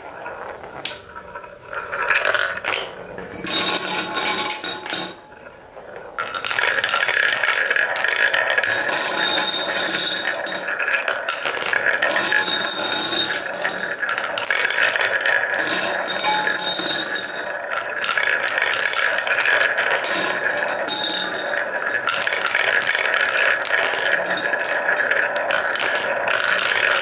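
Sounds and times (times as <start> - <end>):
wooden balls rattling in bowl: 0.0 - 27.0.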